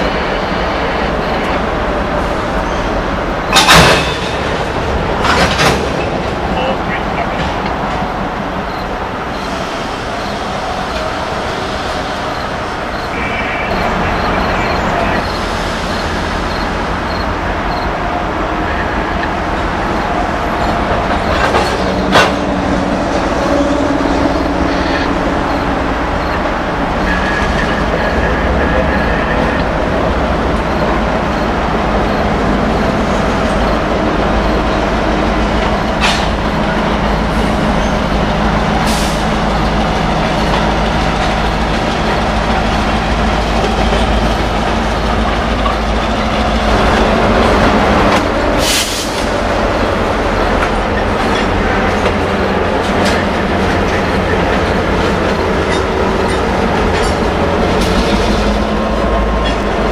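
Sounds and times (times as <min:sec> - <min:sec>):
diesel locomotive engine rumble: 0:00.0 - 0:59.9
train wheel and car noise: 0:00.0 - 0:59.9.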